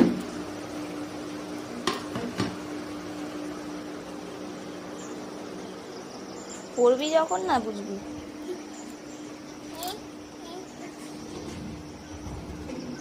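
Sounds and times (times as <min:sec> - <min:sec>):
steady indoor hum: 0:00.0 - 0:13.0.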